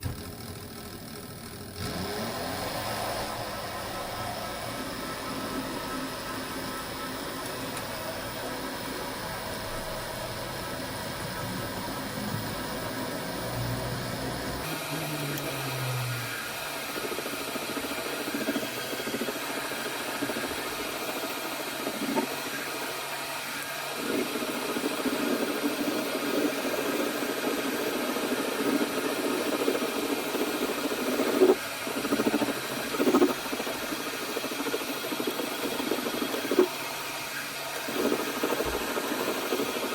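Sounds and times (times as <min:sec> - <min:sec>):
small machine motor running: 0:00.0 - 0:39.9.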